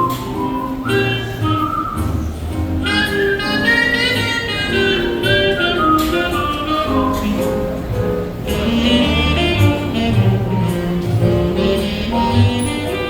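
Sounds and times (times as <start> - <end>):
steady bass notes: 0.0 - 13.0.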